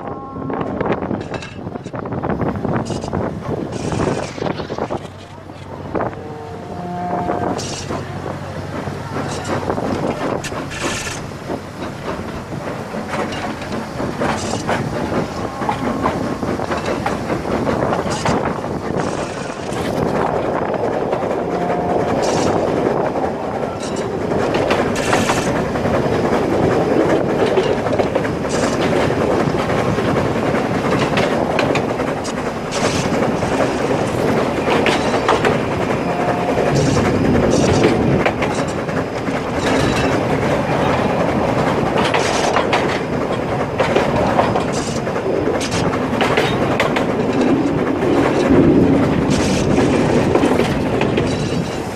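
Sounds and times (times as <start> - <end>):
train wagon rumble: 0.0 - 51.9
wheels clacking over rail joints: 0.6 - 51.9.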